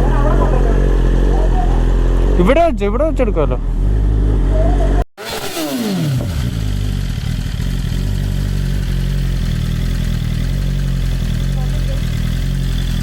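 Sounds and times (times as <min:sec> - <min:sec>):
motorcycle engine revs falling to idle: 0:00.0 - 0:02.4, 0:03.4 - 0:13.0.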